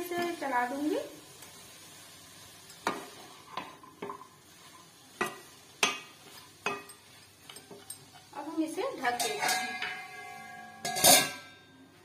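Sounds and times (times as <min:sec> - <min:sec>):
spatula stirring leaves in pan: 0:00.0 - 0:11.3.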